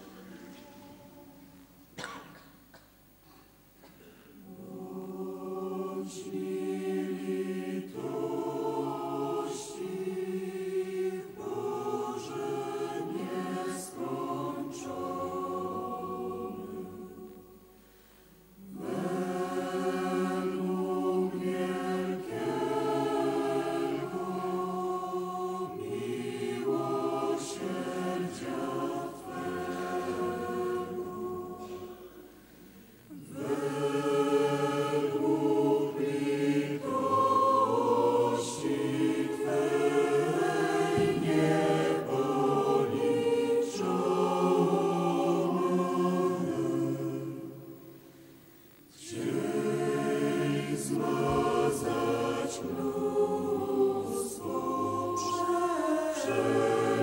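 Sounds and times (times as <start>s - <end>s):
choir singing a slow hymn: 0.0s - 57.0s.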